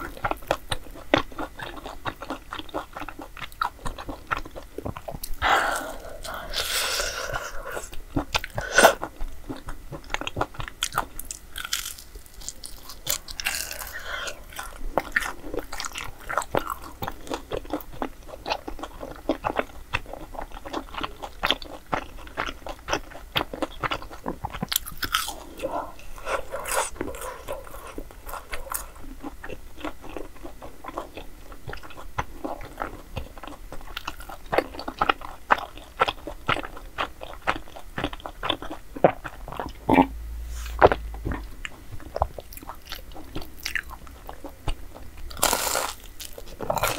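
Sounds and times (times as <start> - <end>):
crunchy bites and chewing: 0.0 - 46.9.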